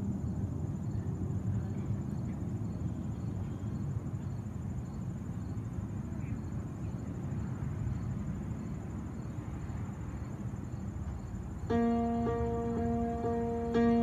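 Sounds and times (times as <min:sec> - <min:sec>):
crickets chirping: 0:00.0 - 0:14.0
low outdoor rumble: 0:00.0 - 0:14.0.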